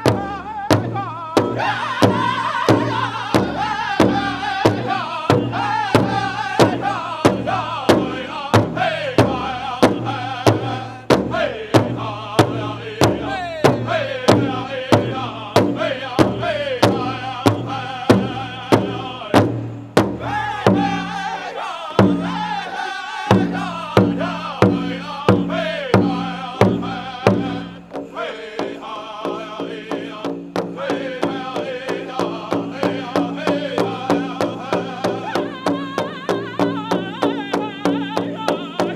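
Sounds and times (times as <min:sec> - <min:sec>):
large drum beat: 0:00.0 - 0:38.9
men singing in high phrases: 0:00.0 - 0:38.9.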